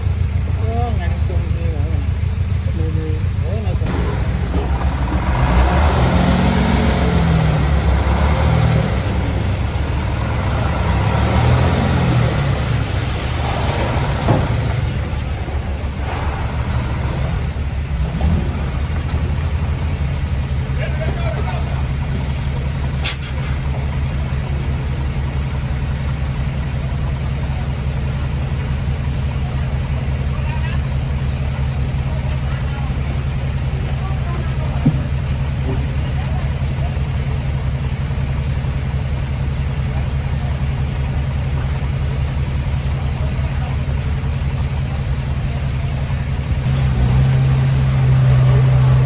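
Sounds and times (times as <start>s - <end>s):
diesel machinery engine under load: 0.0s - 49.0s.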